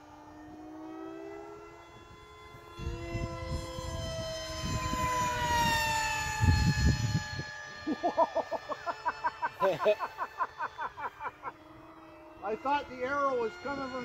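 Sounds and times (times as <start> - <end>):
electric ducted fan whine: 0.0 - 14.0.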